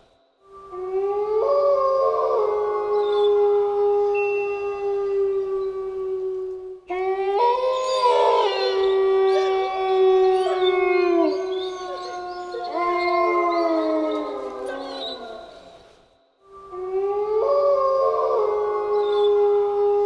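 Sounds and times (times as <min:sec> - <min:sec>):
wolves howling in chorus: 0:00.7 - 0:16.0, 0:16.6 - 0:20.0.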